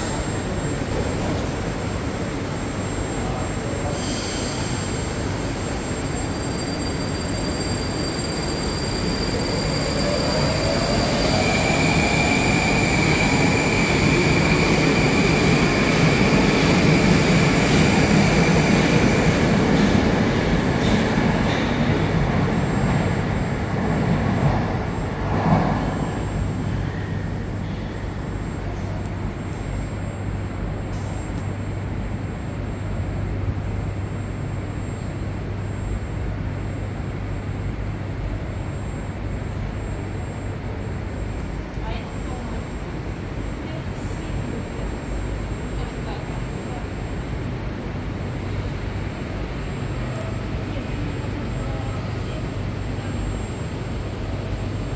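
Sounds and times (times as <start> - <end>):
steady low hum: 0.0 - 54.9
traction motor whine: 0.0 - 54.9
train rumble: 0.0 - 54.9.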